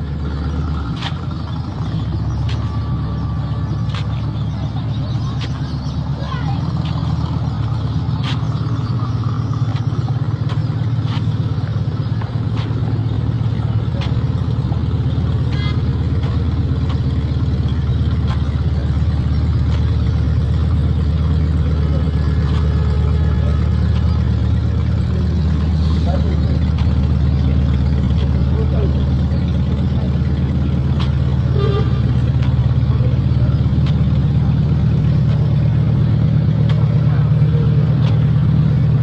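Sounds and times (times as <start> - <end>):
road traffic rumble: 0.0 - 39.0.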